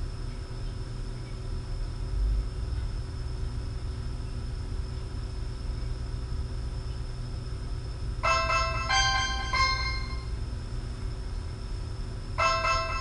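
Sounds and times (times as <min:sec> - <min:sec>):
faint high hum: 0:00.0 - 0:13.0
low room rumble: 0:00.0 - 0:13.0.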